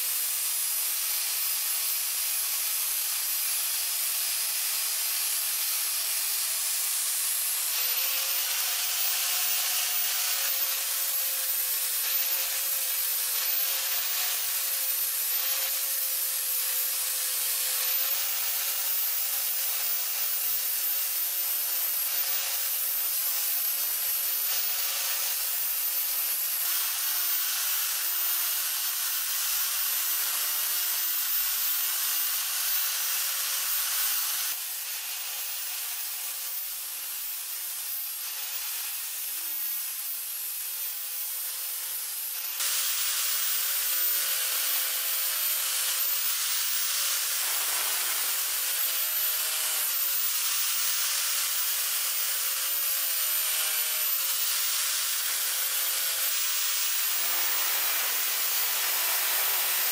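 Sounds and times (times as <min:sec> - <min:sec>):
angle grinder grinding metal: 0:00.0 - 0:59.9.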